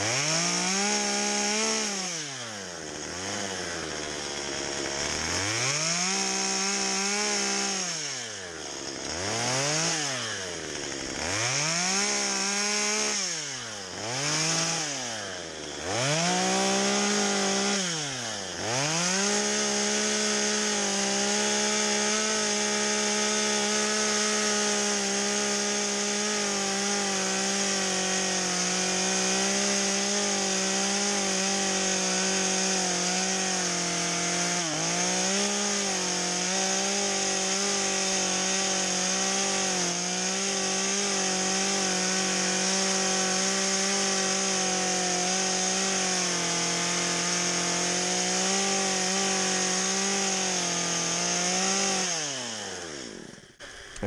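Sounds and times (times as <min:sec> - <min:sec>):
chainsaw carving wood: 0:00.0 - 0:54.0.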